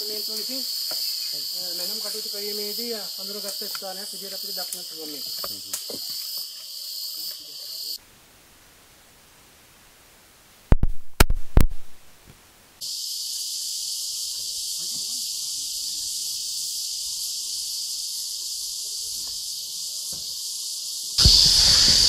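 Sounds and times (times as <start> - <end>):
insects droning: 0.0 - 8.5, 12.7 - 22.0.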